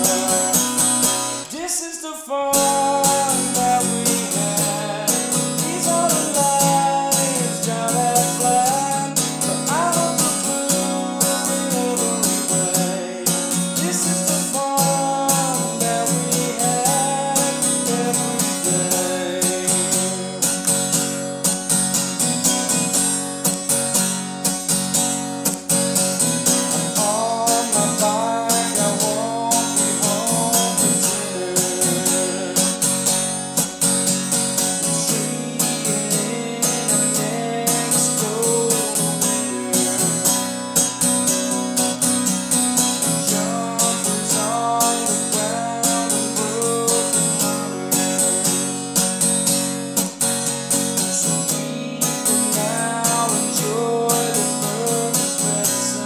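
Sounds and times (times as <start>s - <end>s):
man singing: 0.0s - 21.2s, 26.0s - 49.8s, 50.5s - 56.0s
acoustic guitar strumming: 0.0s - 56.0s.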